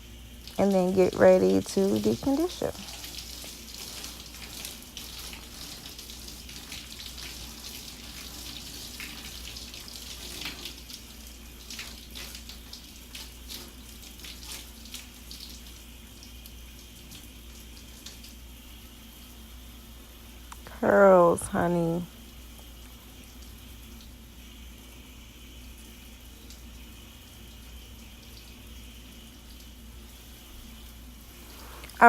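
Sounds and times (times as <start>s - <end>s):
water running: 0.0s - 32.0s.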